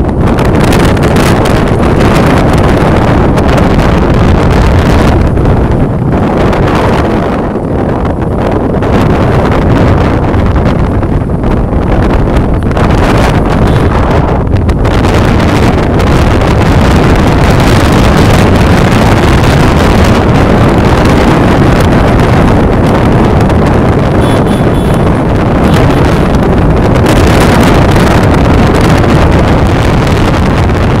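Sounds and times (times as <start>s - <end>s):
strong wind on microphone: 0.0s - 31.0s.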